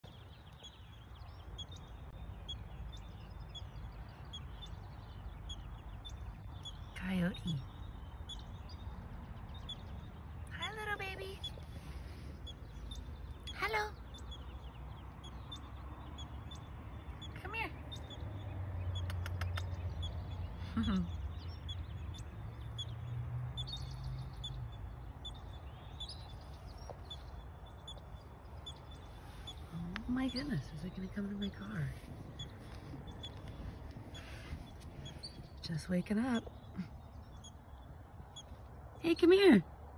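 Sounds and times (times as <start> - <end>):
small bird chirping: 0.0 - 39.9
steady low rumble: 0.0 - 39.9.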